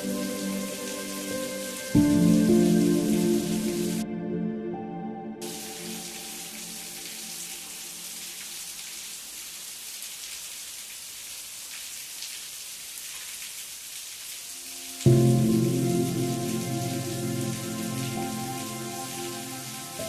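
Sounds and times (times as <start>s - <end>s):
steady rain hiss: 0.0s - 4.1s, 5.4s - 20.0s.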